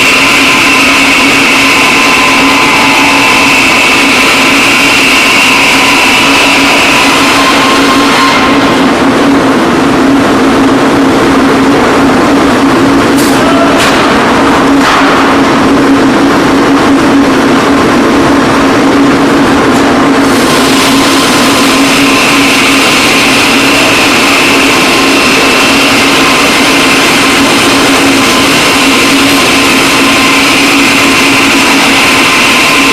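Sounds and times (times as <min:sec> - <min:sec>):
sawing machine humming: 0:00.0 - 0:32.9.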